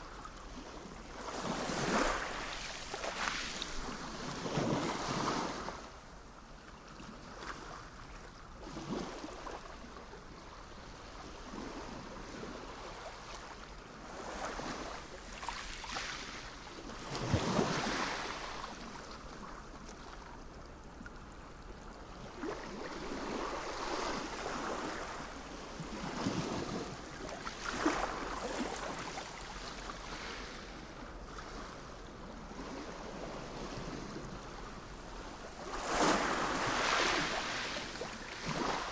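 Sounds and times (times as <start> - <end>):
sea waves breaking on shore: 0.4 - 6.0, 11.0 - 20.3, 22.1 - 38.9.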